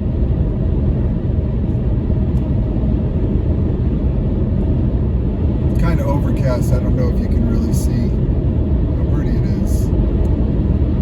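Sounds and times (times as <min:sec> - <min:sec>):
car rumble from inside cabin: 0:00.0 - 0:11.0.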